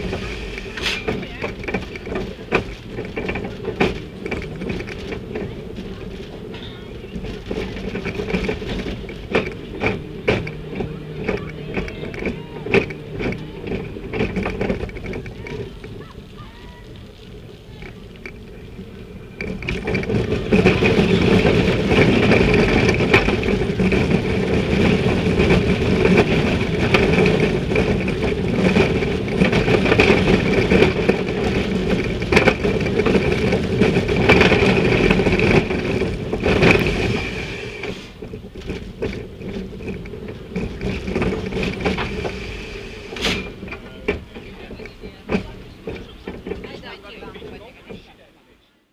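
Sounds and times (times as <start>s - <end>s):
roller coaster rumbling on track: 0.0s - 48.9s.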